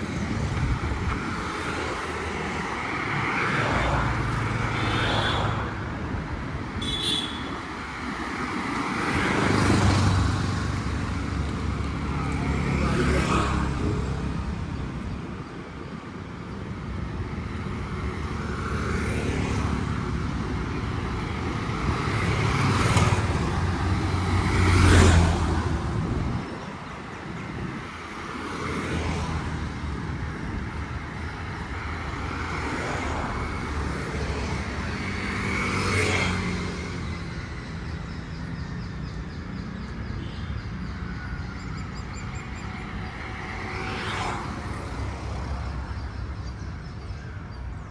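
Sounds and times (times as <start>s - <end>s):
cars passing by: 0.0s - 47.9s.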